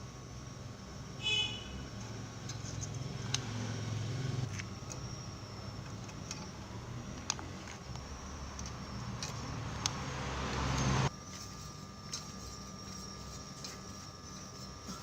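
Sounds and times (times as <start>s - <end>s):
small electric motor humming: 0.0s - 15.0s.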